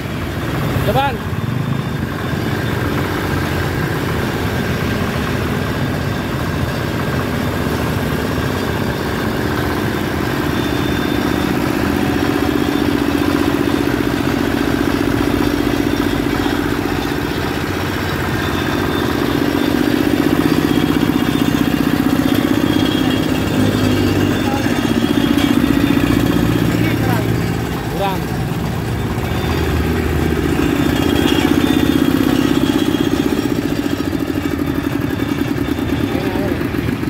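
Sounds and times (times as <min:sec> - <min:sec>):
diesel engine thumping: 0:00.0 - 0:37.0.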